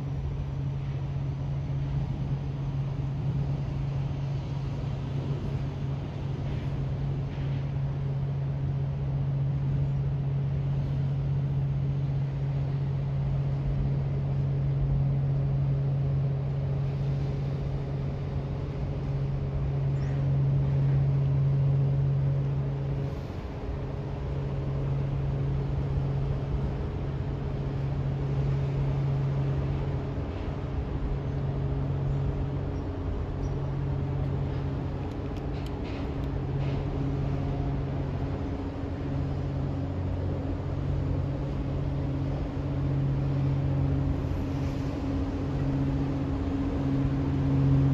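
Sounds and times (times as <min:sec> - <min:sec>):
ship engines droning: 0:00.0 - 0:47.9.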